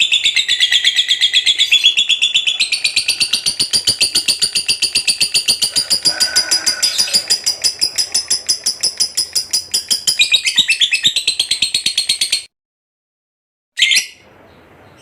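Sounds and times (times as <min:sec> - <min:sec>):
lovebird chattering song: 0:00.0 - 0:12.5.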